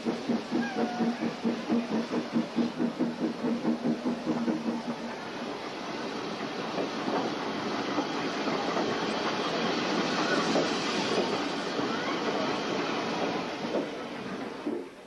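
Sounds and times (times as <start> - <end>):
train wheels rattling on track: 0.0 - 15.0.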